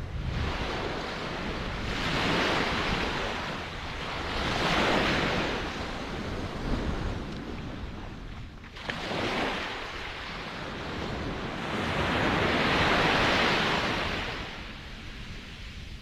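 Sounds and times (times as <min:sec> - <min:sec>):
ocean waves breaking on shore: 0:00.0 - 0:16.0
wind rumble on microphone: 0:00.0 - 0:16.0.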